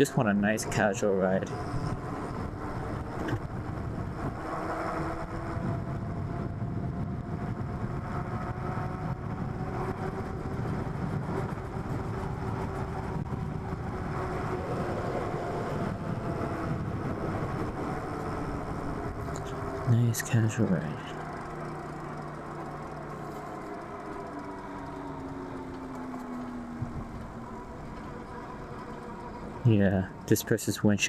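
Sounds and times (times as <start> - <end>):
wind and tyre rumble: 0.0 - 31.0.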